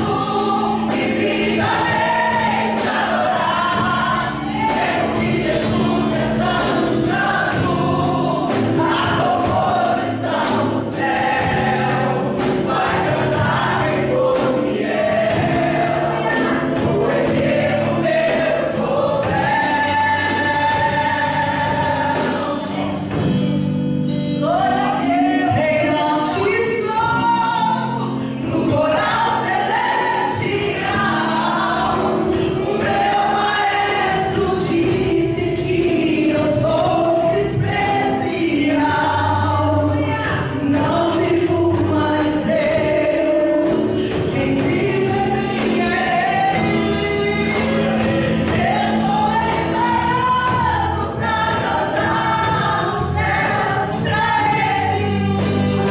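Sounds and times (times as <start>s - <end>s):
instrumental accompaniment: 0.0s - 55.9s
vocal group singing: 0.0s - 55.9s.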